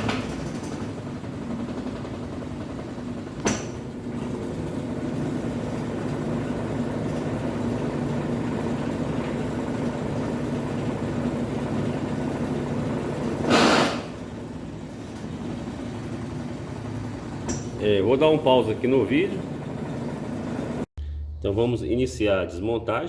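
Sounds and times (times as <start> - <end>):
washing machine spinning: 0.0 - 20.9.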